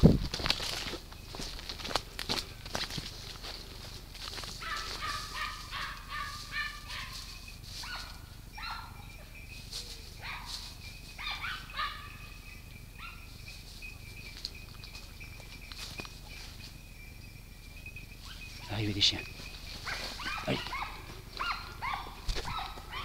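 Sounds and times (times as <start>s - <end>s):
dogs yelping and barking: 4.2s - 23.0s.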